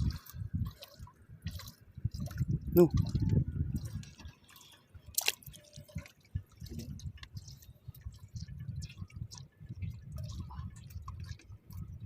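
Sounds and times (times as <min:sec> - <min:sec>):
water sloshing and dripping: 0:00.0 - 0:12.0.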